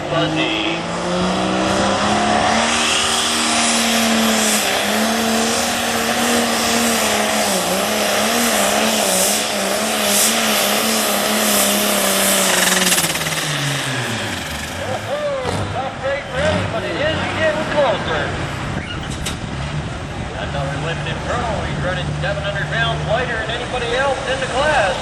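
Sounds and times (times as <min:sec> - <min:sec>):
diesel tractor engine at full throttle: 0:00.0 - 0:25.0.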